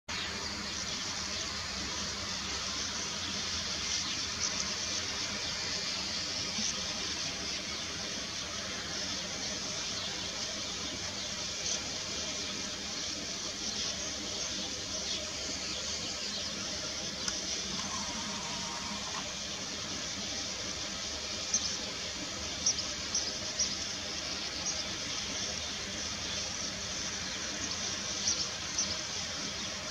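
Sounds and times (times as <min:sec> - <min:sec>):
birds twittering: 0:00.1 - 0:29.9
dense hiss-like background: 0:00.1 - 0:29.9
sand martins chirping: 0:00.1 - 0:29.9.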